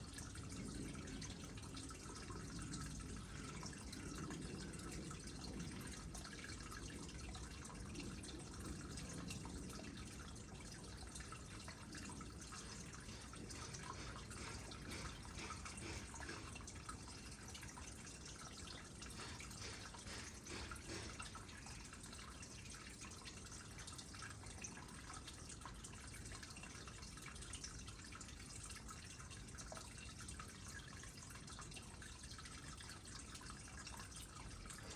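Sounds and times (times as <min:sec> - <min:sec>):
water trickling into pond: 0:00.0 - 0:34.9.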